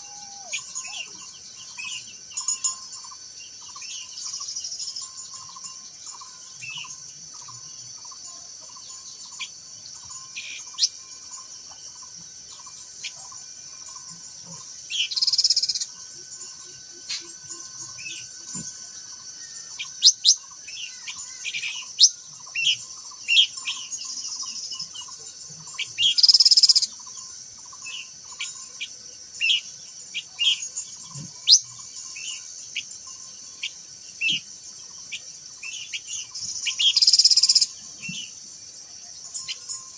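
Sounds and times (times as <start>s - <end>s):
bird chirping: 0.0s - 39.9s
high insect drone: 0.0s - 39.9s
pulsing insect call: 0.0s - 39.9s.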